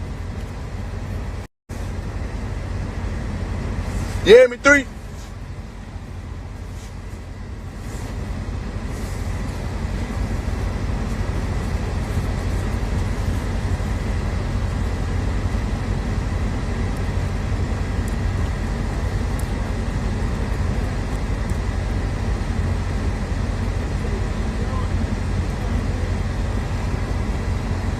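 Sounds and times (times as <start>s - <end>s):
road and engine rumble: 0.0s - 27.9s.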